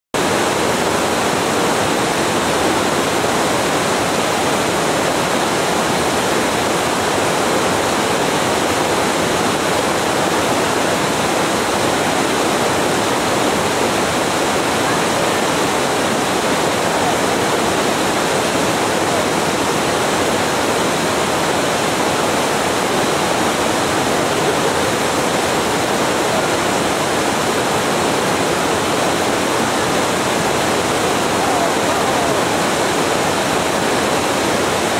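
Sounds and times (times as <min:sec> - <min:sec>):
water rushing over rapids: 0:00.2 - 0:34.9.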